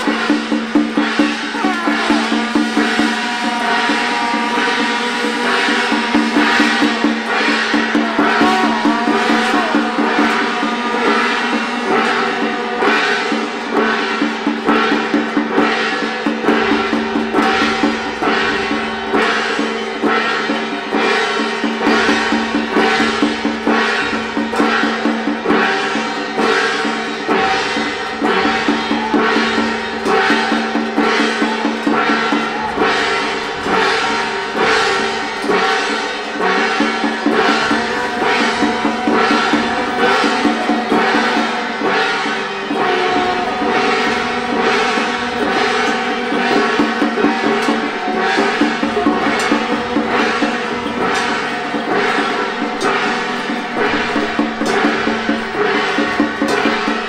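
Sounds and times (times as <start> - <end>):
drums beating fast rhythm: 0.0 - 57.0
gong strokes: 0.0 - 57.0
wood-block strokes: 0.0 - 57.0.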